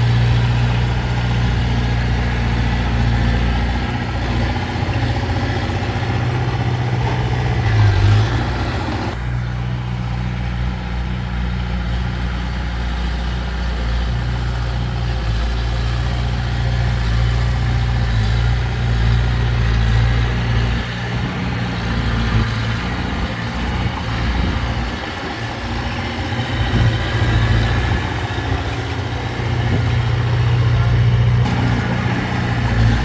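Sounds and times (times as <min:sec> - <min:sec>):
heavy machinery diesel engine running: 0:00.0 - 0:33.0.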